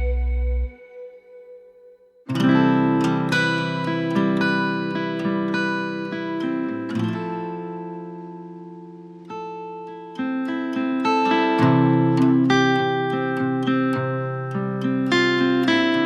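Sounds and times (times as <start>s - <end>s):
acoustic guitar plucking: 0.0s - 1.6s, 2.3s - 16.0s.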